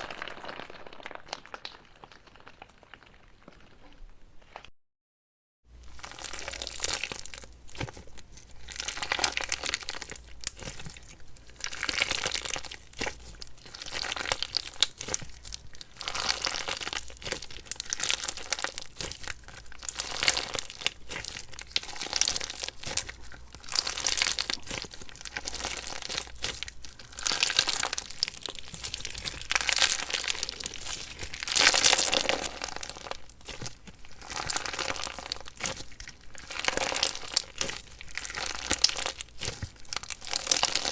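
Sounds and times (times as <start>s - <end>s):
slime squished by hand: 5.9s - 40.9s.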